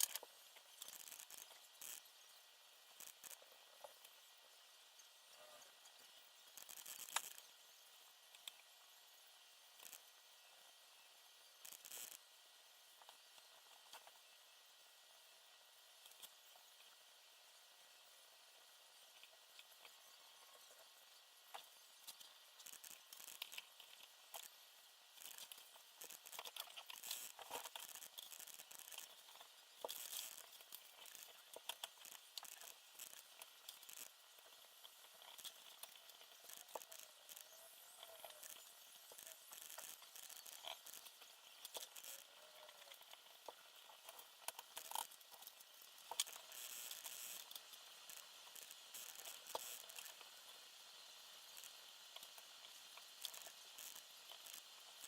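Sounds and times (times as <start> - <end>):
small parts and tools clicking: 0.0 - 10.7, 11.5 - 14.4, 15.7 - 55.0.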